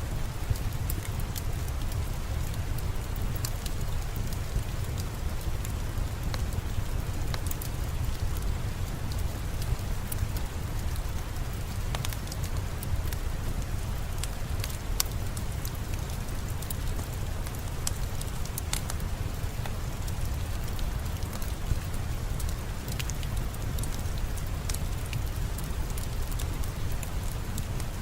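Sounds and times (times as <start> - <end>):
steady rain falling: 0.0 - 28.0
wood fire crackling: 0.0 - 28.0.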